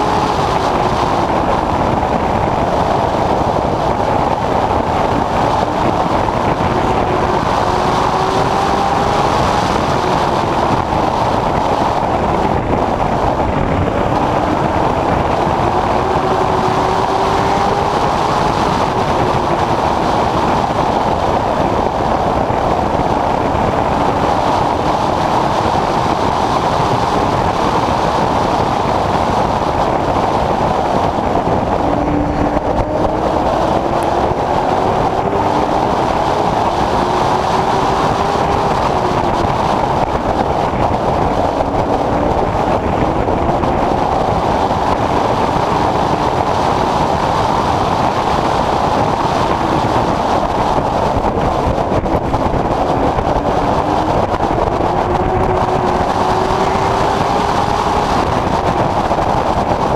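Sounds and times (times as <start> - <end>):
race car engine: 0.0 - 59.9
road and wind noise: 0.0 - 59.9.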